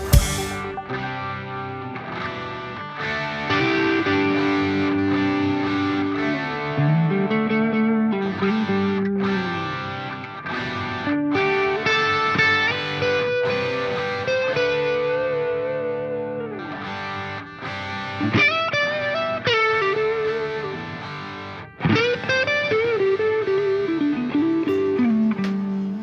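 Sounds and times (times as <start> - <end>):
distorted electric guitar lead: 0.0 - 26.0.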